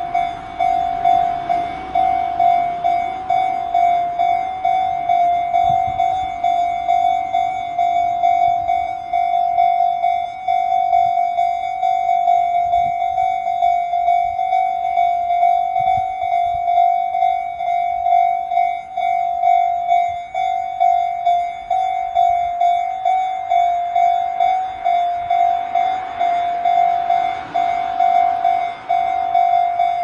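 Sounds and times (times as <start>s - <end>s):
level crossing warning bell: 0.0s - 30.0s
train approaching: 0.0s - 30.0s.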